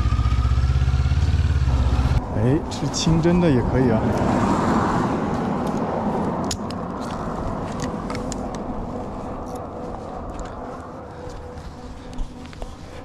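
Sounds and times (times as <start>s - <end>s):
motorcycle running: 0.0s - 13.0s
road and wind noise: 0.0s - 13.0s.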